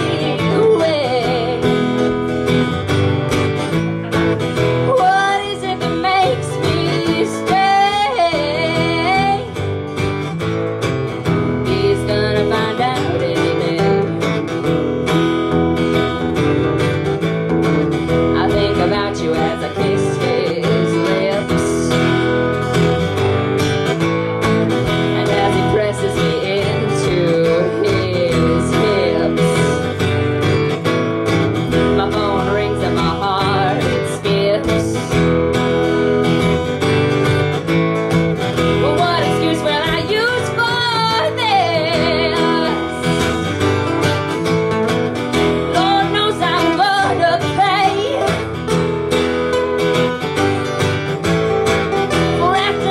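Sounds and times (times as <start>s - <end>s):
strummed acoustic guitar: 0.0s - 52.9s.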